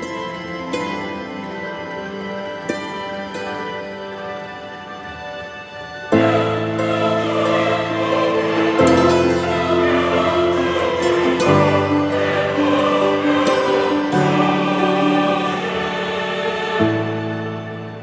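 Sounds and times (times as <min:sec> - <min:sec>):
choir-like held notes: 0:00.0 - 0:18.0.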